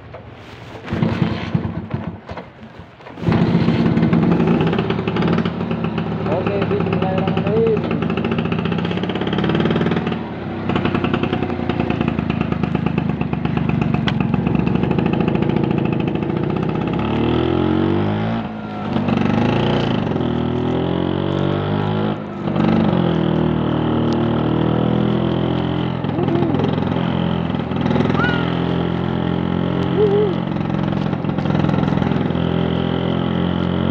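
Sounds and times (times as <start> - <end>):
scooter engine running: 0.0 - 33.9.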